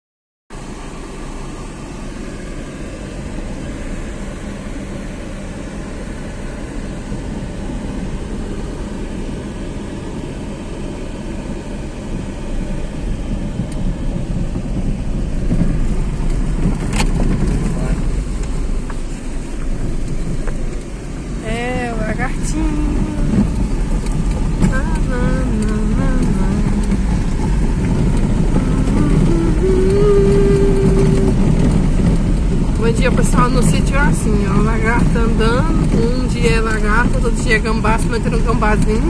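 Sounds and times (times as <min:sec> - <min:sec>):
vehicle rumble: 0:00.5 - 0:39.0.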